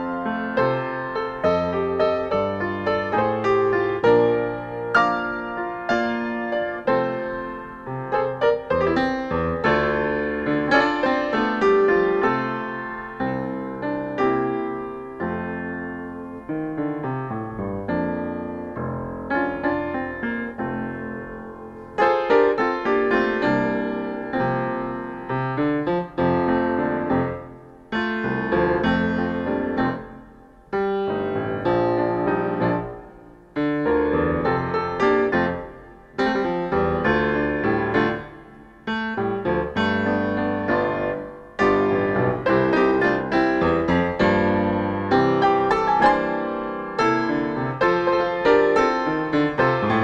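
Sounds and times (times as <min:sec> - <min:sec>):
solo grand piano playing: 0:00.0 - 0:50.0.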